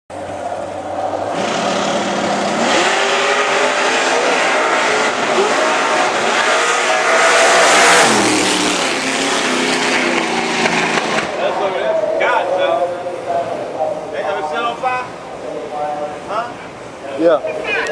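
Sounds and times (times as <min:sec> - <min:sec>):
car engine idling and revving: 0:00.1 - 0:14.7.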